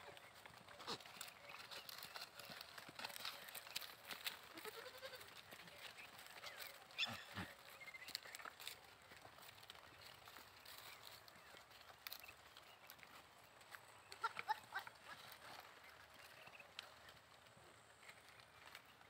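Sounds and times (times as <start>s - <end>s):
rustling of leaves: 0.0s - 19.0s.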